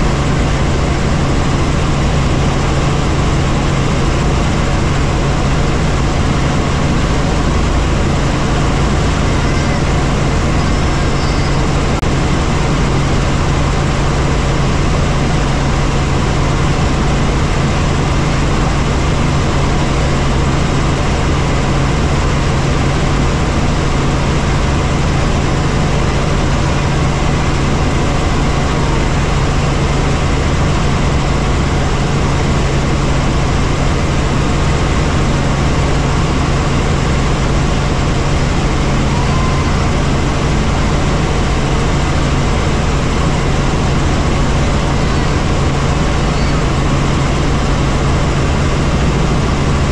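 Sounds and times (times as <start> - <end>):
helicopter engine and rotor drone: 0.0 - 49.9.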